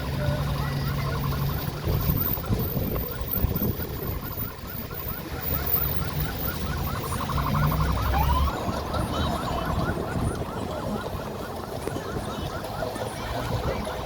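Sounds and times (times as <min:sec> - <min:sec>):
electronic siren yelping: 0:00.0 - 0:14.0
rumble of moving vehicles: 0:00.0 - 0:14.0.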